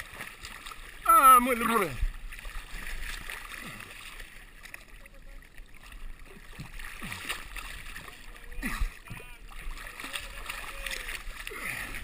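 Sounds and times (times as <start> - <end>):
sea water sloshing and lapping: 0.0 - 12.0
water gurgles: 0.0 - 12.0.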